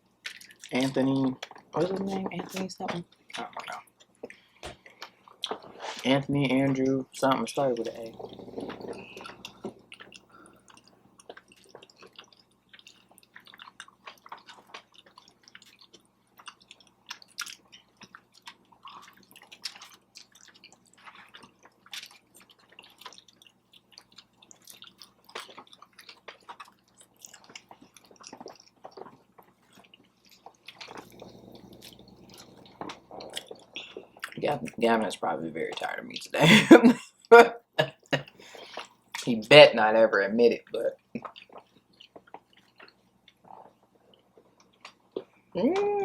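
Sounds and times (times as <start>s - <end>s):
person chewing food: 0.0s - 6.0s, 7.8s - 34.7s, 37.8s - 39.3s, 41.0s - 45.5s.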